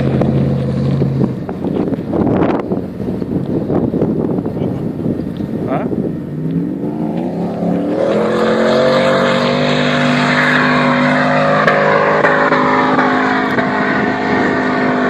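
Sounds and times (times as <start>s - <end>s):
engine at full throttle: 0.0s - 15.0s.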